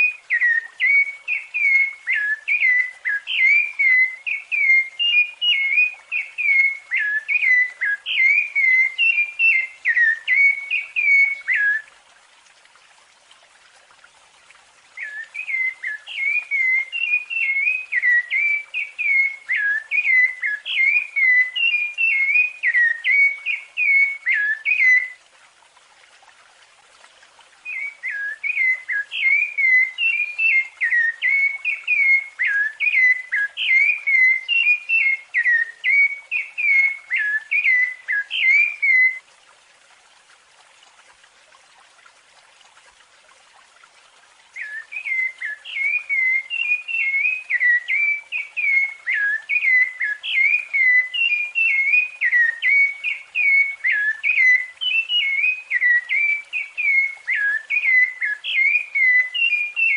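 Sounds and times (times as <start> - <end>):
thrush singing whistled notes: 0.0 - 11.9, 15.0 - 25.2, 27.6 - 39.2, 44.5 - 59.9.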